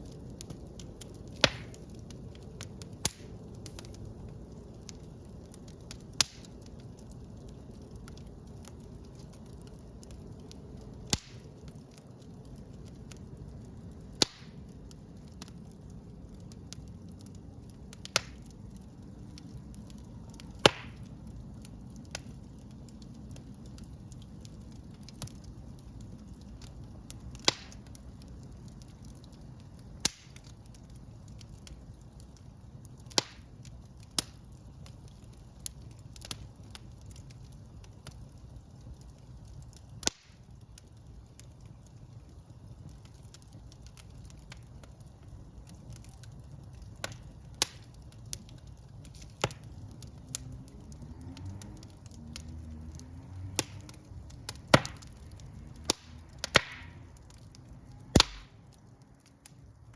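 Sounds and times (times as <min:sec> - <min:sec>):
fire flames rushing: 0:00.0 - 0:59.9
wood fire popping and cracking: 0:00.0 - 0:59.9.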